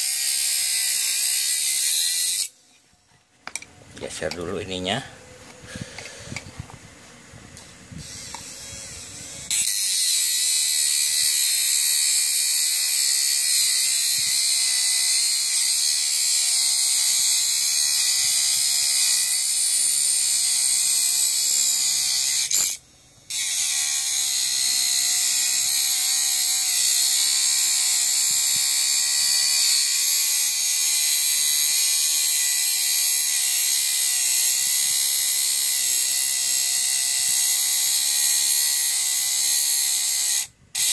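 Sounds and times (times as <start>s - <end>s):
grinder whining and grinding metal: 0.0s - 2.9s, 3.5s - 40.9s.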